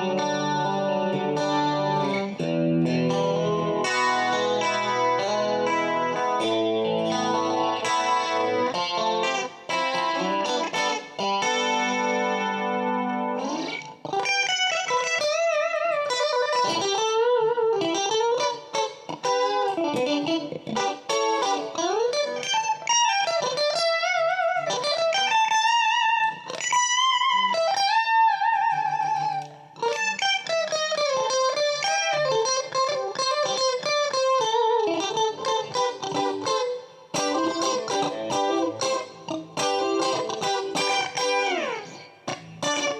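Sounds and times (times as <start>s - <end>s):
clean electric guitar: 0.0s - 42.9s.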